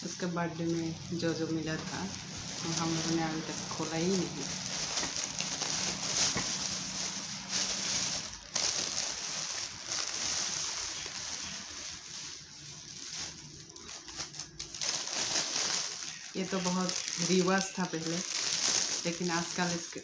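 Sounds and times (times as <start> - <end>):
plastic gift wrap rustling: 0.0 - 20.0.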